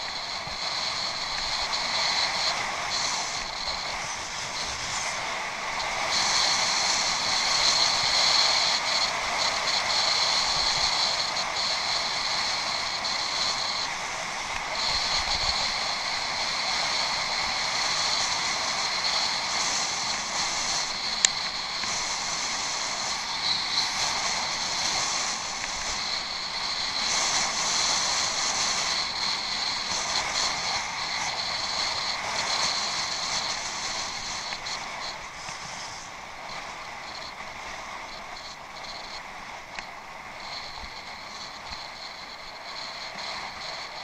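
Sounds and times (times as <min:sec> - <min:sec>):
bicycle tyres rolling off-road: 0:00.0 - 0:44.0
wind noise: 0:00.0 - 0:44.0.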